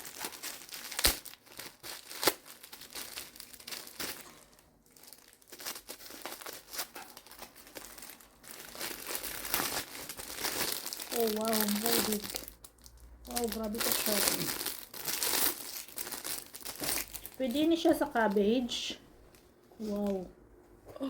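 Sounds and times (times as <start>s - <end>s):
packaging crinkling: 0.0s - 20.2s.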